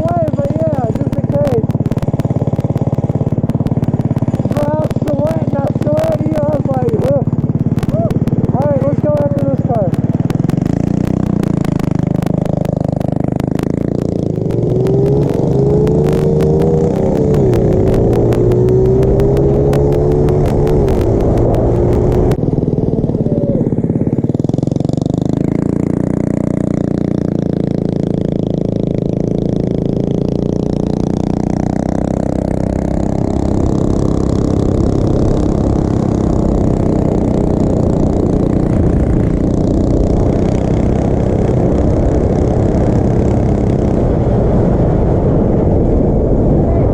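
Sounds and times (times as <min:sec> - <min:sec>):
rapid crackle: 0:00.0 - 0:46.9
small motorbike engine running: 0:00.0 - 0:46.9.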